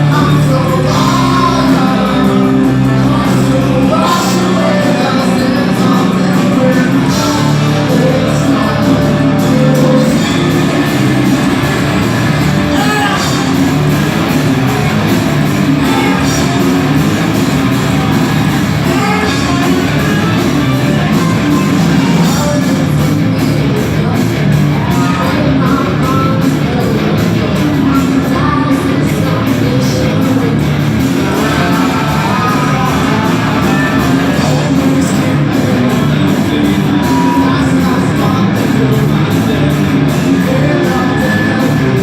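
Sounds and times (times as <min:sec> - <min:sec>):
bass guitar: 0:00.0 - 0:42.0
drums: 0:00.0 - 0:42.0
electric guitars: 0:00.0 - 0:42.0
person singing and shouting: 0:00.0 - 0:42.0.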